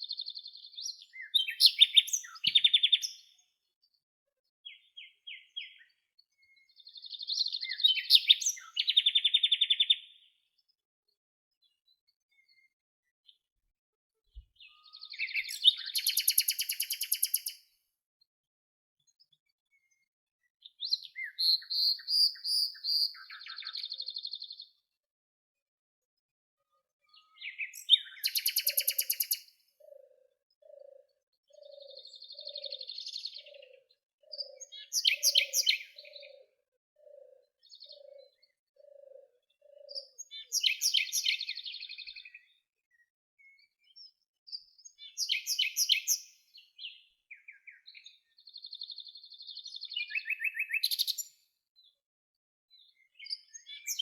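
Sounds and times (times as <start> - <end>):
songbirds chirping and trilling: 0.0 - 18.3, 19.0 - 52.1, 52.7 - 54.0.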